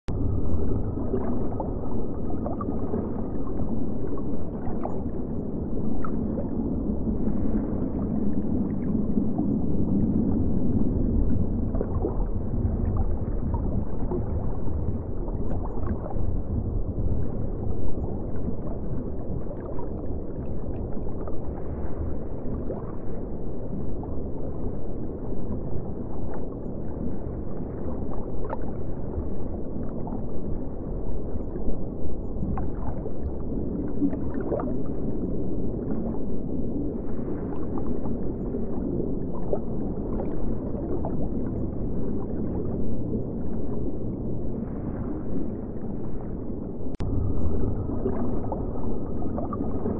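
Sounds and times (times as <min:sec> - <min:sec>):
faint underwater sounds: 0:00.0 - 0:49.9
low rumble of deep water: 0:00.0 - 0:49.9.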